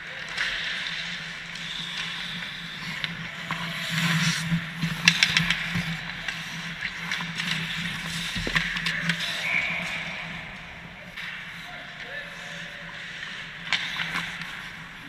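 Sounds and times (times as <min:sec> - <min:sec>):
skates scraping ice: 0:00.0 - 0:15.0.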